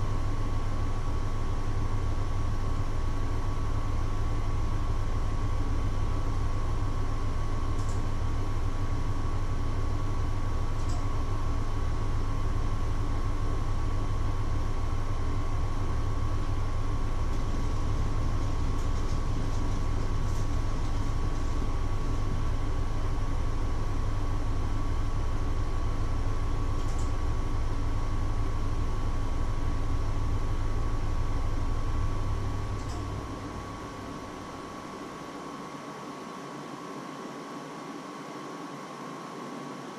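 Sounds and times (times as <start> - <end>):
machine humming and whining: 0.0 - 39.9.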